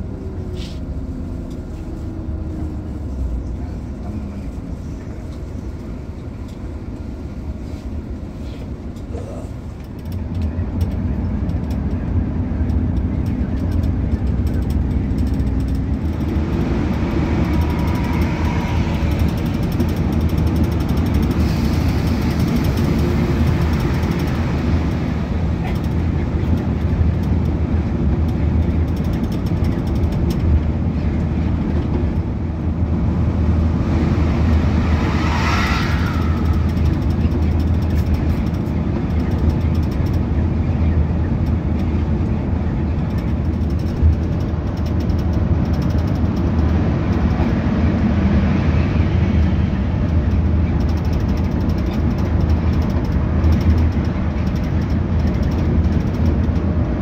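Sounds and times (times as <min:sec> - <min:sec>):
coach engine and tyres droning: 0:00.0 - 0:57.0.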